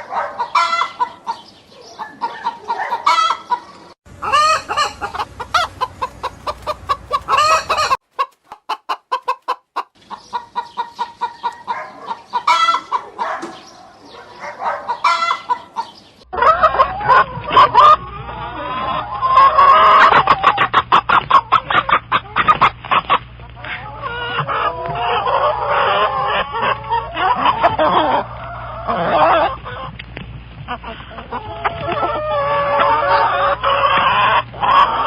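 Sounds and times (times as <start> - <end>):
hens clucking: 0.0 - 35.0.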